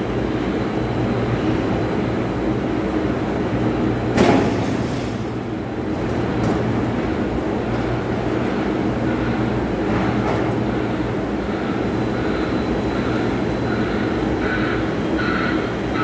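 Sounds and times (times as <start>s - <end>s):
machinery rumble: 0.0s - 16.0s.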